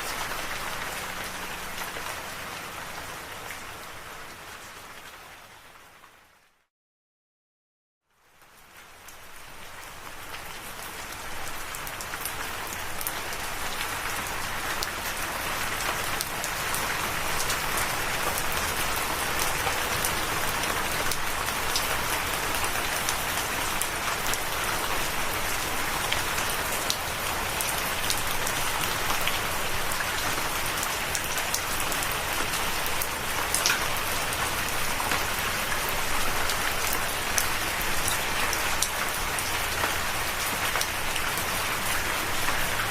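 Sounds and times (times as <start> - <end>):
rain falling: 0.0 - 6.6, 8.1 - 42.9.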